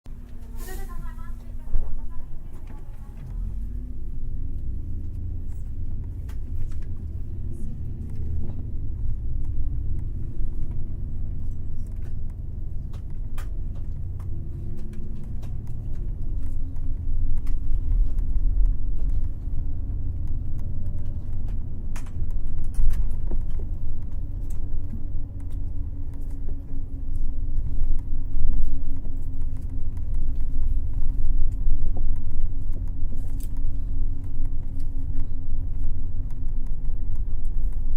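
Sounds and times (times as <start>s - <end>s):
bus engine and road rumble: 0.0s - 37.9s
light clicks and rattles: 0.2s - 37.9s.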